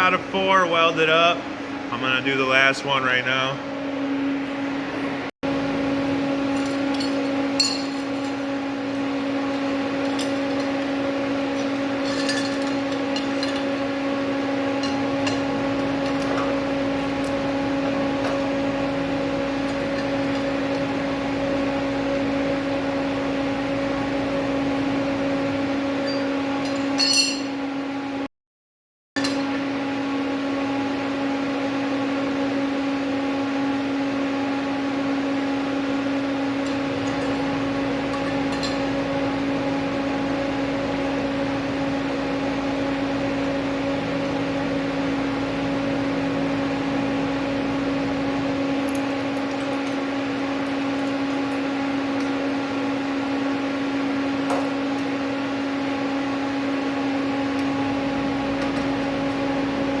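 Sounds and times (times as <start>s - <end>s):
steady machine hum: 0.0s - 28.3s, 29.2s - 60.0s.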